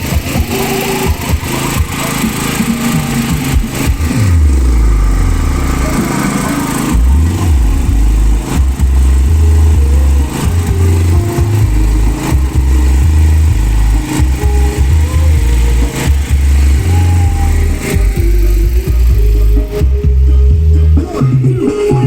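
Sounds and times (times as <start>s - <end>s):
loud bass-heavy music: 0.0s - 22.0s
falling bass sweep: 1.2s - 22.0s.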